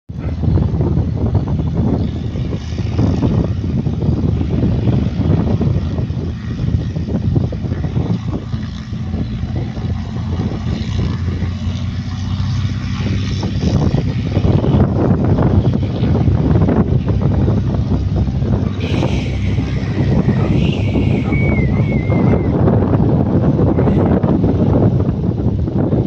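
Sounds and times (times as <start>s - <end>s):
constant low hum: 0.1s - 26.0s
low engine rumble: 0.1s - 26.0s.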